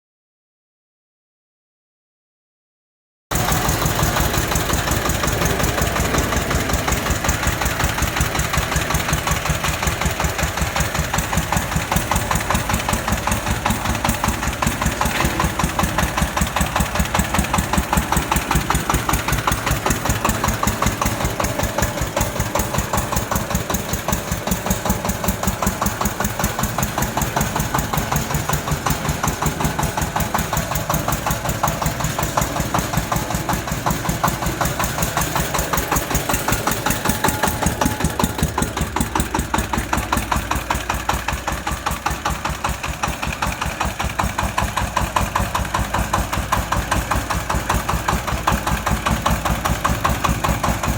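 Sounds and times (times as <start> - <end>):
tractor engine knocking: 3.3 - 50.9.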